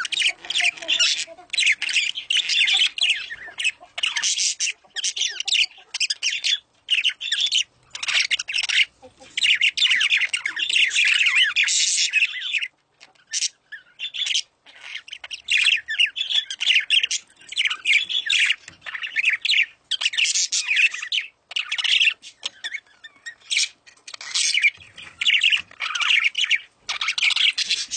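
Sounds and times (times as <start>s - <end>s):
birds chirping and squawking: 0.0s - 27.9s.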